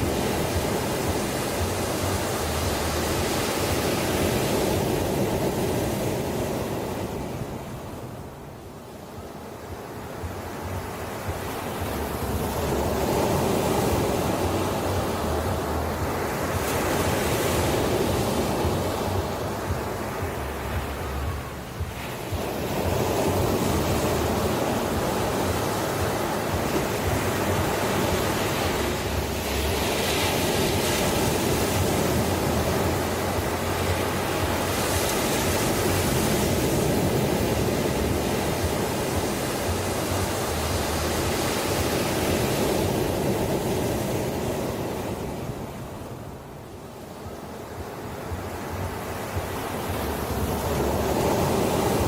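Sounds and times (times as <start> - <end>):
ocean waves breaking: 0.0 - 52.0.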